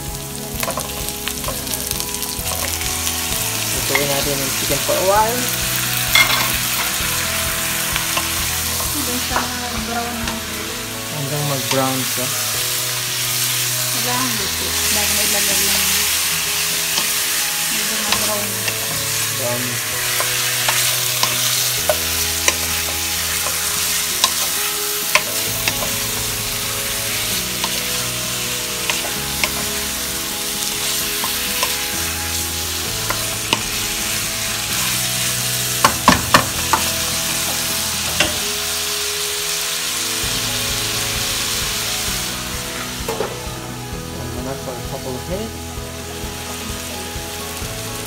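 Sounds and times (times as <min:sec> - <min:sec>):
chicken sizzling in hot oil: 0:00.0 - 0:48.0.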